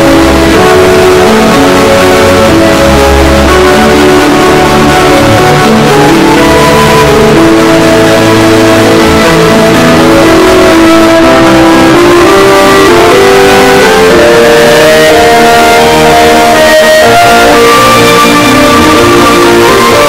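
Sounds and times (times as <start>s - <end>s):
distorted television theme tune: 0.0s - 20.0s.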